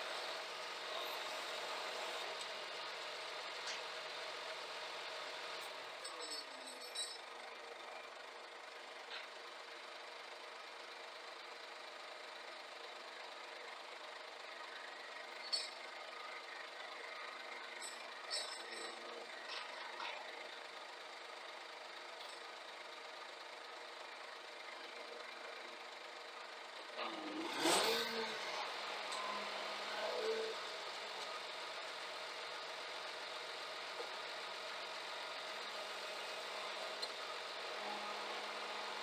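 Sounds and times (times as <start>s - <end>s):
faint truck engine running: 0.0s - 39.0s.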